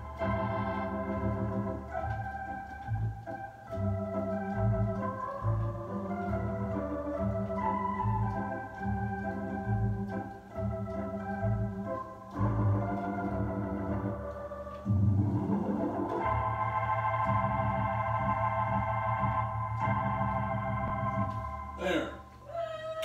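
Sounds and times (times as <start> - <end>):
organ playing a polka: 0.0 - 21.9.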